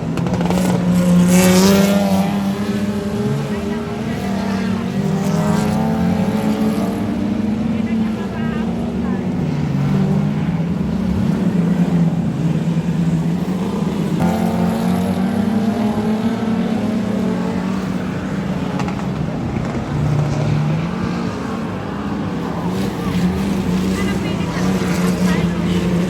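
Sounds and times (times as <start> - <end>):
higher engine note: 0.0 - 26.0
race car engines: 0.0 - 26.0.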